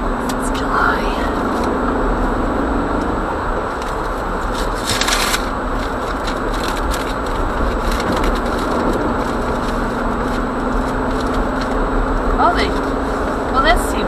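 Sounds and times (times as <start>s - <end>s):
low engine drone: 0.0s - 14.0s
tyre and road noise: 0.0s - 14.0s.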